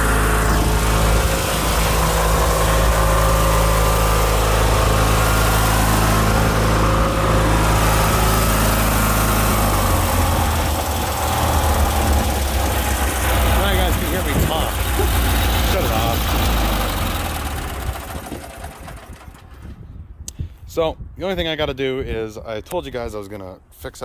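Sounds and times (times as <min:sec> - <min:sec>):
riding lawn tractor engine: 0:00.0 - 0:19.8.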